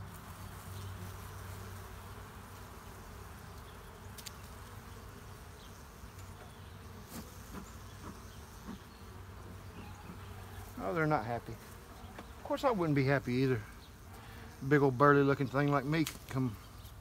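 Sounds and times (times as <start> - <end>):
bees buzzing: 0.0 - 17.0
bees flying past: 0.0 - 17.0.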